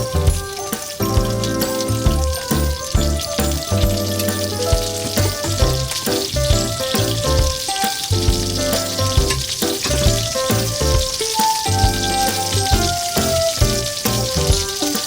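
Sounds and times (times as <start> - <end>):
background music with steady beat: 0.0 - 15.0
food frying in a pan: 0.0 - 15.0.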